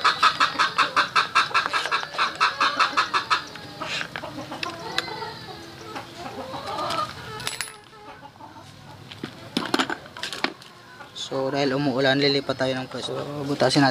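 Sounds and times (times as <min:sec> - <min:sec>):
chickens clucking: 0:00.0 - 0:13.9.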